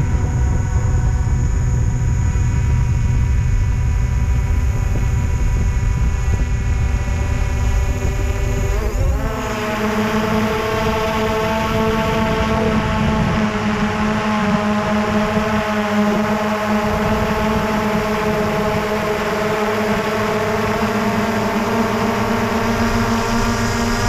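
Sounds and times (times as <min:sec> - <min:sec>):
drone propellers whirring: 0:00.0 - 0:24.0.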